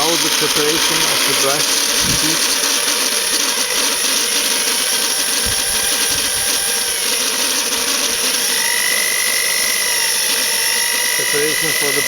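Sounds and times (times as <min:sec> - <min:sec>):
power tool hissing: 0:00.0 - 0:12.0.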